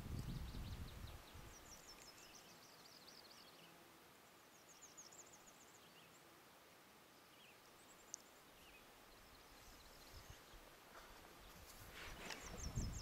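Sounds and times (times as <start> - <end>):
faint songbird chirps: 0.0 - 13.0.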